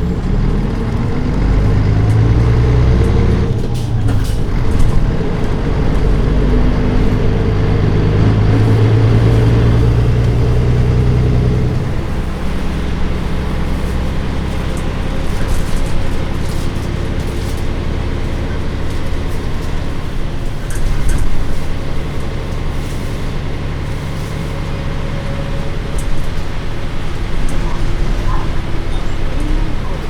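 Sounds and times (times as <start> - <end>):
diesel bus engine droning: 0.0 - 30.0.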